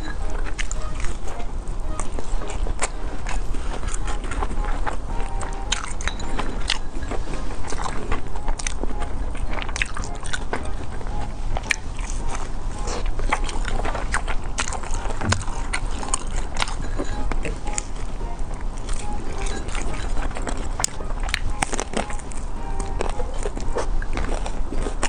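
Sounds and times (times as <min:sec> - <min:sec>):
crunchy biting and chewing: 0:00.0 - 0:25.0.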